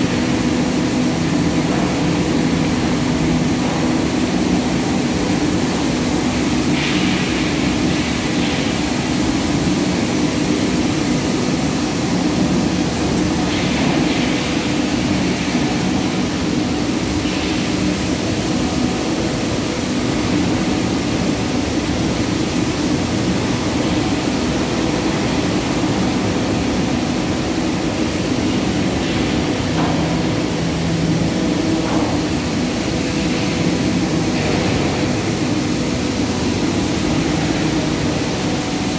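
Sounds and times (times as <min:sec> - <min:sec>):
mill machinery drone: 0:00.0 - 0:38.9.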